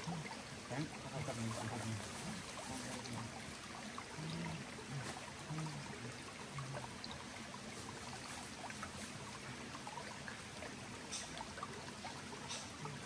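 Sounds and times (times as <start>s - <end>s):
stream running over rocks: 0.0s - 13.0s.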